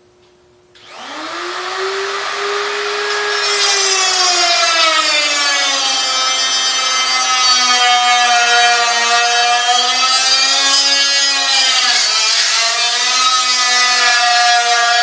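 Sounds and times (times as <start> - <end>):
rotary cutting tool whining: 0.8 - 15.0.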